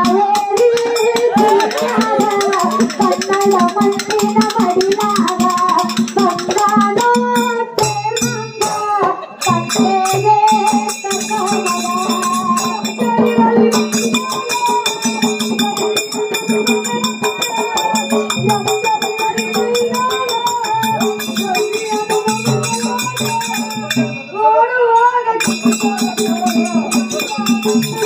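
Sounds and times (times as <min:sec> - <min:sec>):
person singing folk song: 0:00.0 - 0:28.0.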